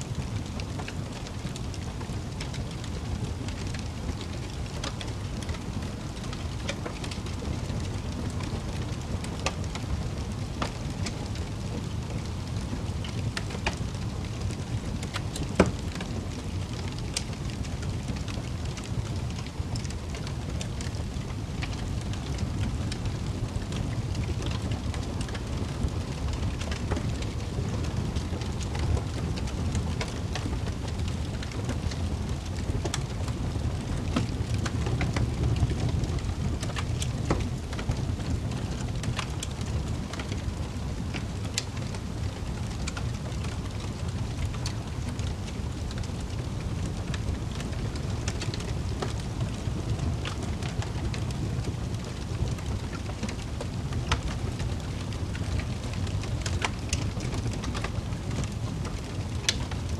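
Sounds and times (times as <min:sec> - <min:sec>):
fire flame rumble: 0:00.0 - 0:59.9
fire crackles and pops: 0:00.1 - 0:59.9.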